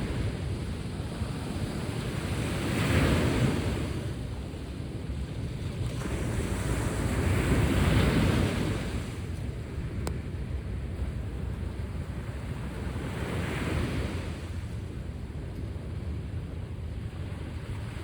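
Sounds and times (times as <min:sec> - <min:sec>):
sea waves breaking on shore: 0:00.0 - 0:18.0
wind rumbling on microphone: 0:00.0 - 0:18.0.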